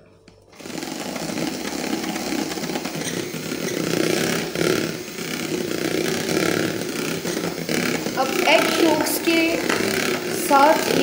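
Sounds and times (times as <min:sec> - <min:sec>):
electric hand mixer whisking: 0:00.0 - 0:11.0.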